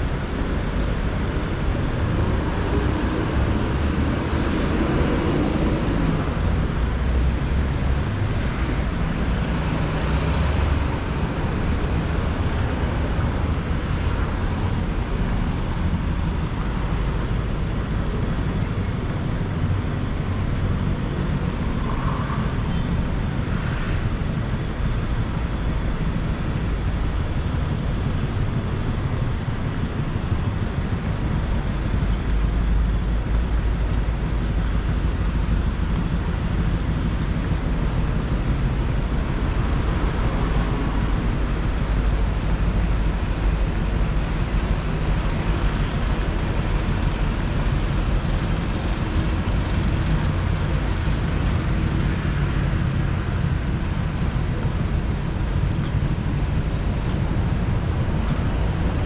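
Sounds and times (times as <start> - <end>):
city background rumble: 0.0 - 59.0.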